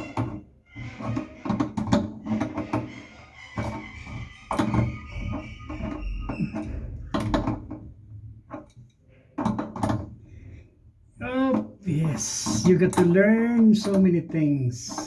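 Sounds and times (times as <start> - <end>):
plumbing fittings and tools clattering: 0.0 - 15.0.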